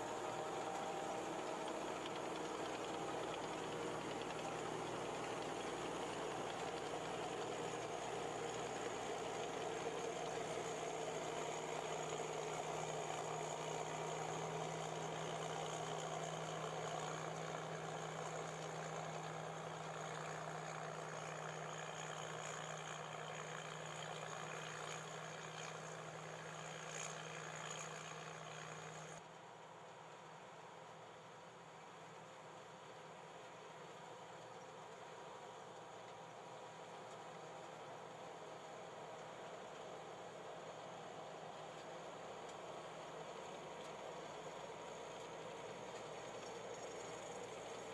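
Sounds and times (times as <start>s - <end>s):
combine harvester running: 0.0s - 29.2s, 36.8s - 47.9s.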